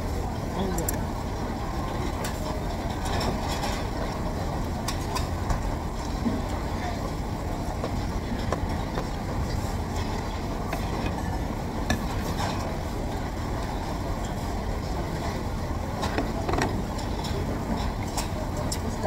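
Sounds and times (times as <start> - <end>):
restaurant background rumble: 0.0 - 19.0.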